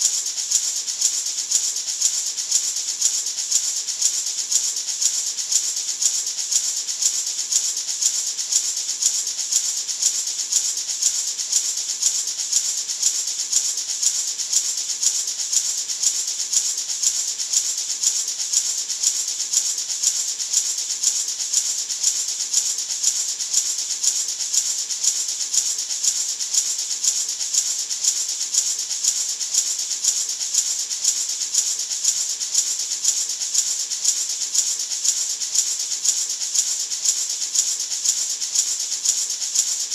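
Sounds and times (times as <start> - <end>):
gourd maraca rattling: 0.0 - 39.9.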